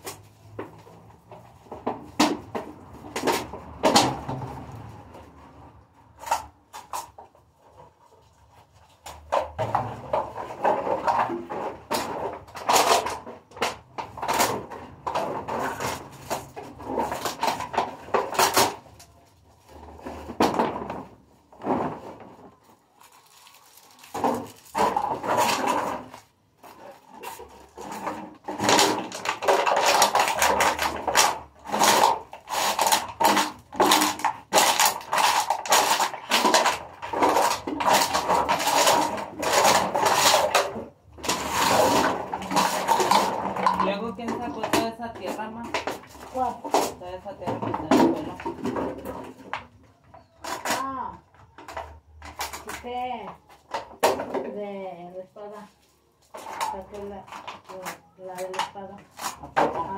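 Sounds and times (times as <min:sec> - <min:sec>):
plastic bottles crackling and crushed: 0:00.0 - 0:59.9.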